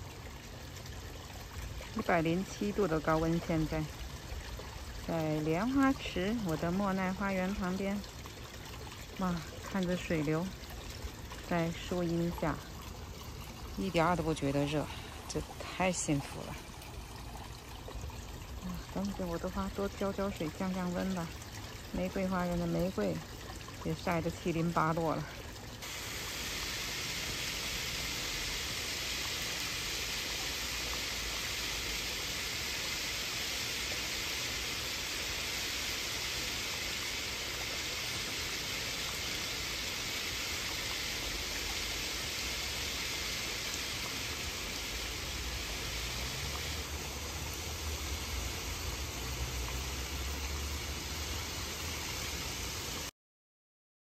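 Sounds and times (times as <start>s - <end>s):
hose water spraying onto pond: 0.0s - 53.1s.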